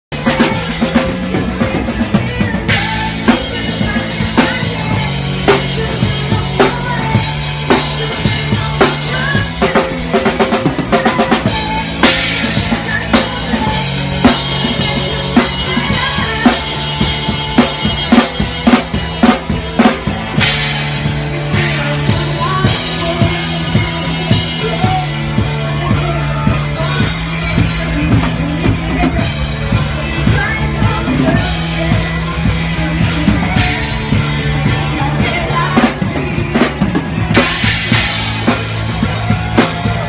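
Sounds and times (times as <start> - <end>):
drum kit beat: 0.1 - 40.0
electric guitar: 0.1 - 40.0
held bass notes: 0.1 - 40.0.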